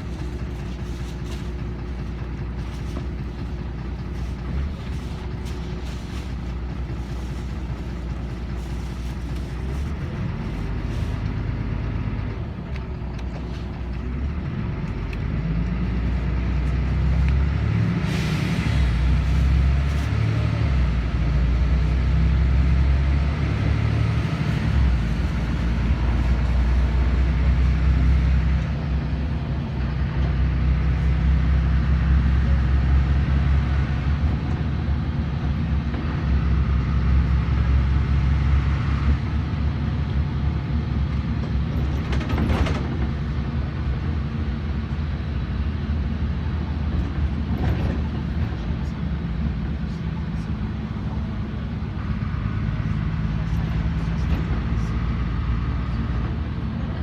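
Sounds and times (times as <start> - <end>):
bus engine rumble: 0.0 - 57.0
road noise: 0.0 - 57.0.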